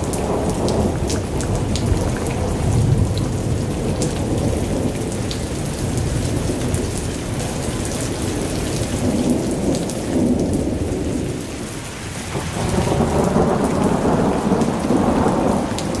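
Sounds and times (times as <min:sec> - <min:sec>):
low rumble of thunder: 0:00.0 - 0:16.0
rain falling: 0:00.0 - 0:16.0.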